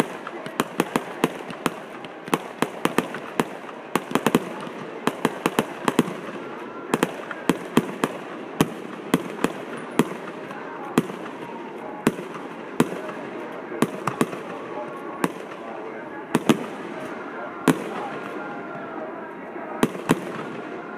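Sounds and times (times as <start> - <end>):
fireworks bangs and pops: 0.0 - 15.7, 16.3 - 18.9.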